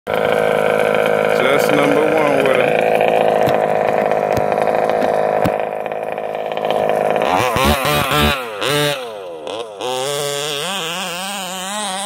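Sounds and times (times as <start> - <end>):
rc buggy engine revving: 0.1 - 12.0.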